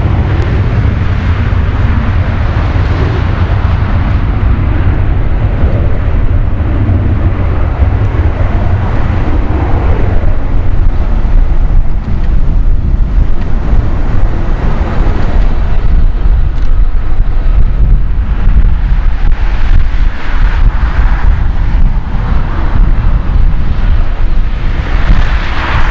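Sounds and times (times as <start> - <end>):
distant jet engines rumbling: 0.0 - 25.9
wind buffeting microphone: 0.0 - 25.9.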